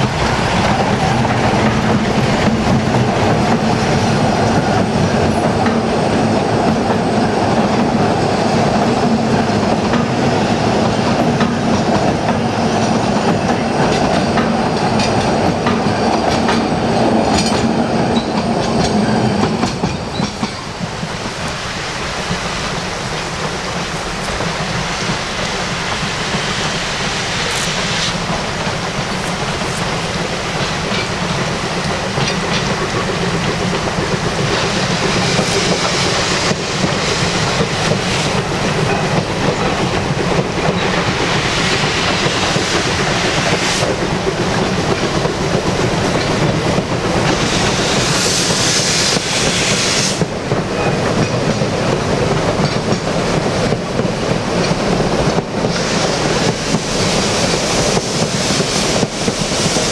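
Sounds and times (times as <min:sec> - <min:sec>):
carriages clacking over rail joints: 0:00.0 - 0:59.9
steam hissing: 0:00.0 - 0:59.9
steam locomotive exhaust chuffing: 0:00.0 - 0:59.9.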